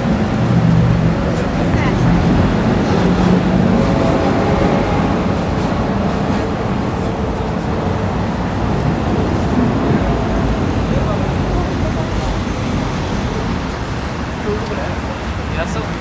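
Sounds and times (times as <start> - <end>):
traffic rumbling past: 0.0 - 16.0.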